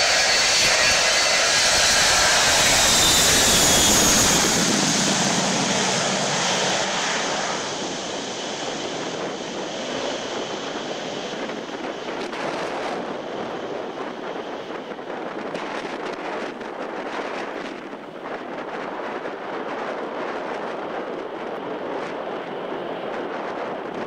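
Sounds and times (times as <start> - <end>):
jet airliner engines at high power: 0.0 - 24.0.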